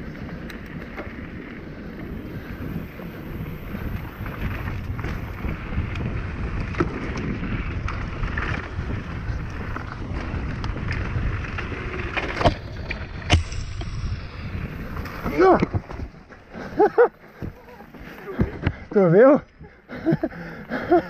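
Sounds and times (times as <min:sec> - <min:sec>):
bike tyres rumbling on dirt: 0:00.0 - 0:19.2
bike clicking and rattling: 0:00.0 - 0:21.0
wind buffeting microphone: 0:00.0 - 0:21.0.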